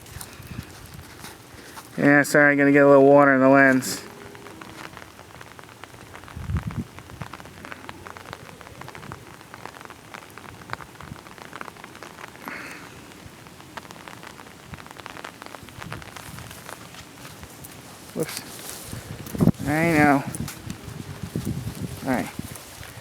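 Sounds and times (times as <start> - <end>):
raindrops ticking: 0.0 - 23.0.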